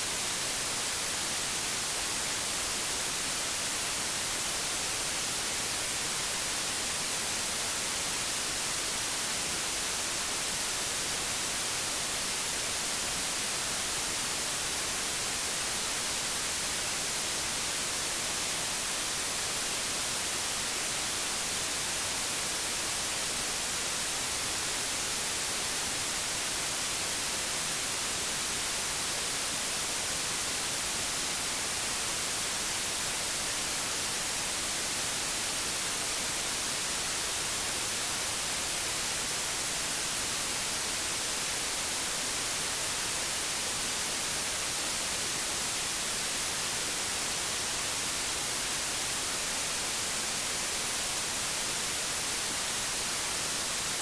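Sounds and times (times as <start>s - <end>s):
television static hiss: 0.0s - 54.0s.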